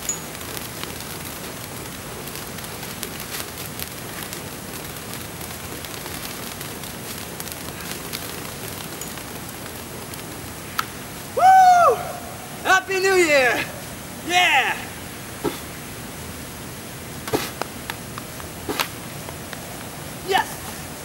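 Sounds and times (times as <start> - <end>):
firework fountains hissing and crackling: 0.0 - 21.0.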